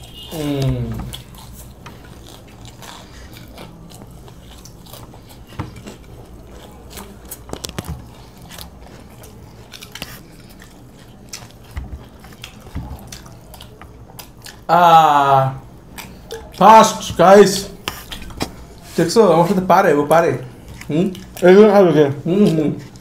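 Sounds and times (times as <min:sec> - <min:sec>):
people chewing fried chicken: 0:00.0 - 0:23.0.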